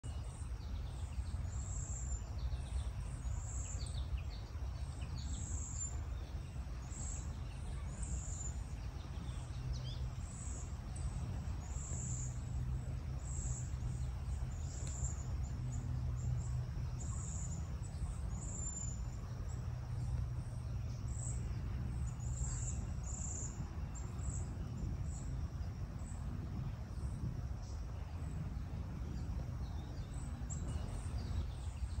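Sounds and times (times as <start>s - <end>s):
low rumble: 0.1s - 32.0s.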